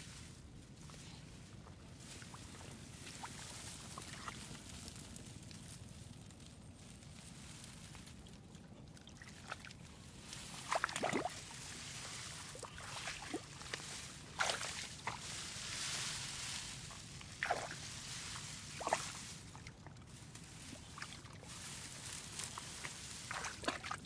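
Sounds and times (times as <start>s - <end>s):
low steady rumble: 0.0s - 24.0s
water sloshing and splashing: 1.6s - 5.0s, 7.9s - 24.0s.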